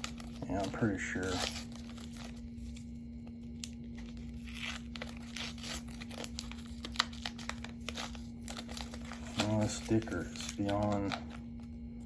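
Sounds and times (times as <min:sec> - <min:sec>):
plastic package crinkling: 0:00.0 - 0:12.0.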